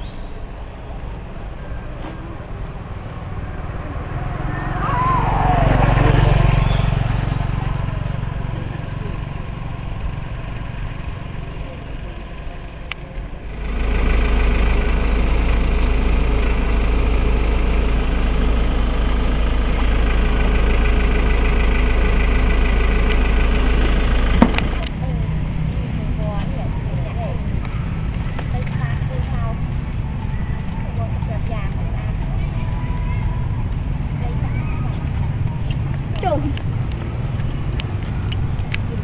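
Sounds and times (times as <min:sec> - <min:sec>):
car driving rumble: 0:00.0 - 0:39.0
motorbike passing: 0:00.0 - 0:39.0.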